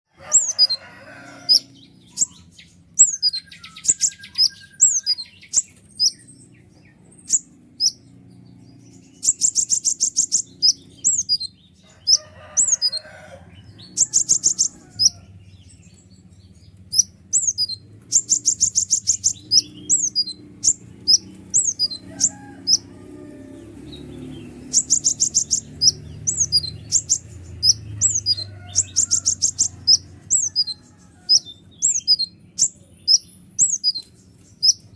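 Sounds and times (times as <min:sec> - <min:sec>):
rapid high bird trills: 0:00.1 - 0:34.9
sunbird singing: 0:00.2 - 0:34.9.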